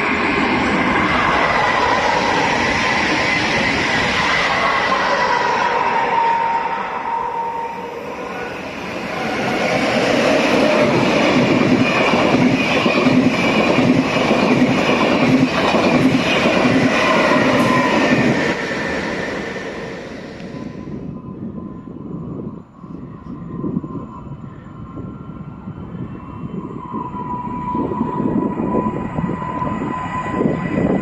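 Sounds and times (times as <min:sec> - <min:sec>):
high-speed train passing: 0:00.0 - 0:31.0.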